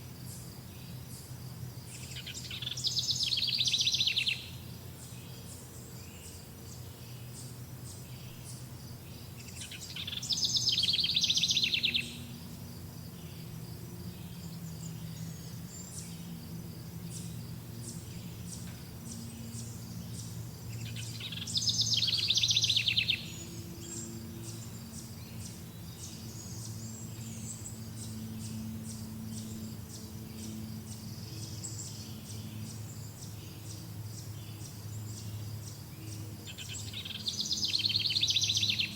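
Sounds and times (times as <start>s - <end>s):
rapid trilled bird songs: 0.0s - 38.9s
songbirds chirping: 0.0s - 38.9s
steady low hum: 0.0s - 38.9s.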